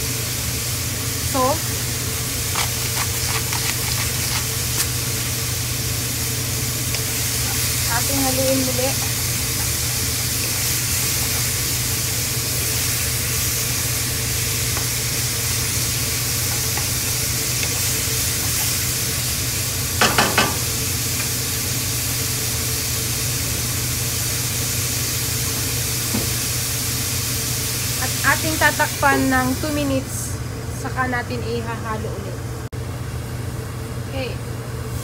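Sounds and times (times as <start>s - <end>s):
food sizzling in a pan: 0.0s - 30.2s.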